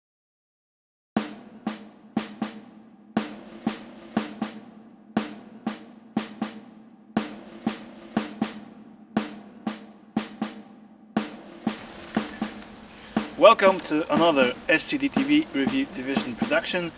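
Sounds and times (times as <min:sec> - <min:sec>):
snare drum playing: 0:01.2 - 0:16.9.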